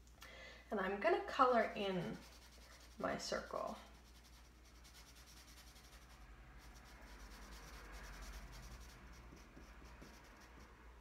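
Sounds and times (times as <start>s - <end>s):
marker rubbing on paper: 2.0s - 10.8s.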